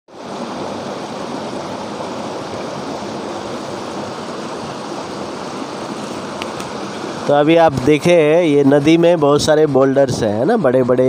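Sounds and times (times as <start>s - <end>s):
river rushing over boulders: 0.1s - 11.0s.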